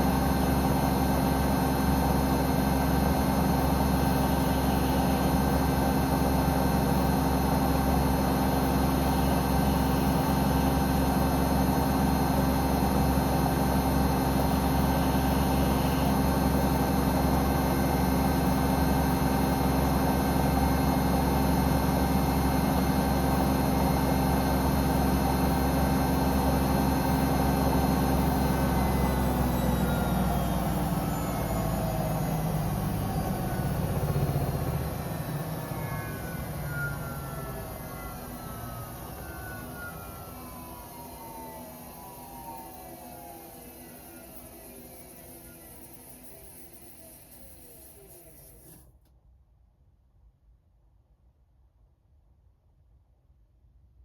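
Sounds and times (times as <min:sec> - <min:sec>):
washing machine spinning whine: 0:00.0 - 0:49.0.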